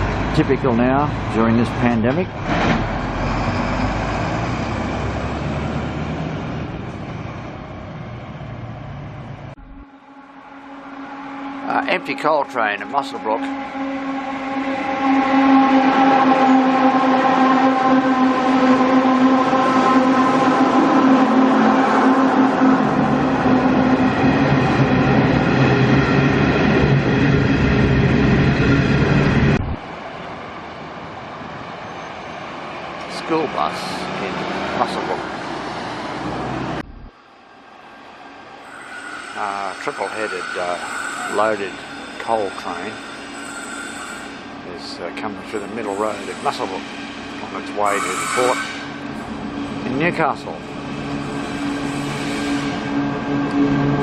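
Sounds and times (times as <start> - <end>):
train rumble: 0.0 - 43.6
diesel locomotive engines: 0.0 - 54.0.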